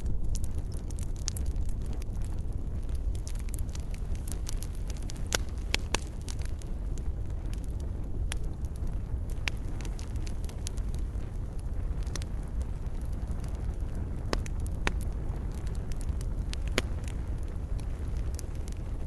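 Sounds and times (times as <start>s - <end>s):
loud pops of fire: 0.0s - 19.0s
wood fire crackling: 0.0s - 19.0s.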